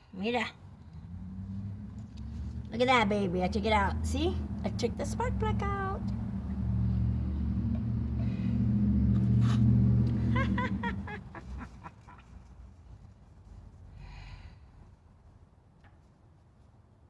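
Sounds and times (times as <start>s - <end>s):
vehicle engine hum: 0.0s - 15.4s.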